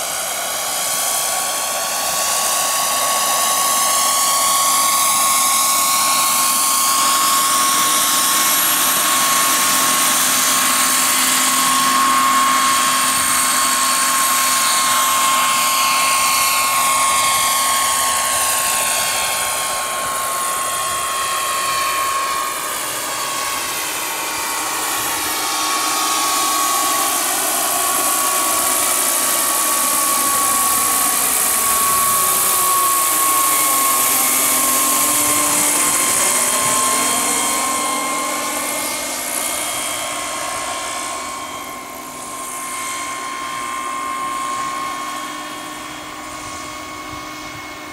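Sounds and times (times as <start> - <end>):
helicopter rotor noise: 0.0 - 47.9
model turbine engine whine: 0.0 - 47.9.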